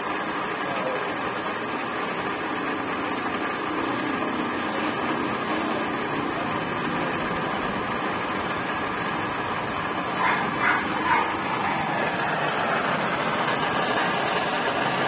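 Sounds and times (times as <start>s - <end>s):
electric pump motor running: 0.0s - 15.0s.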